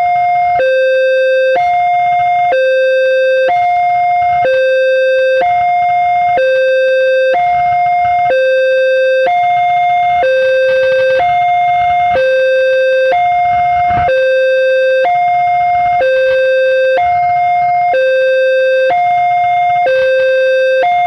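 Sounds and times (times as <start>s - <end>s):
level crossing alarm two tones: 0.0s - 21.0s.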